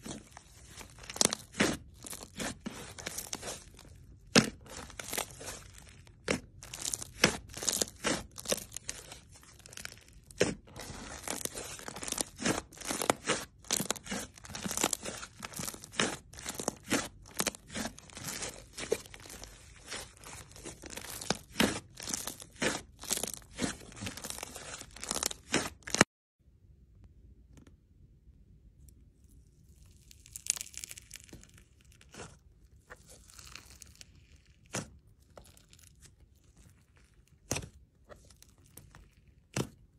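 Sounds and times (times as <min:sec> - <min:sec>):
fingers crunching slime: 0:00.0 - 0:26.0, 0:29.7 - 0:39.9
slime crackling and popping: 0:00.0 - 0:26.0, 0:29.6 - 0:39.9.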